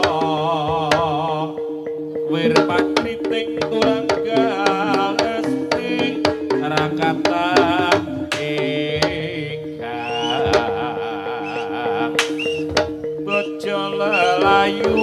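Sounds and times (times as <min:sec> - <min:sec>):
long steady held tones: 0:00.0 - 0:15.0
wavering melody line: 0:00.0 - 0:15.0.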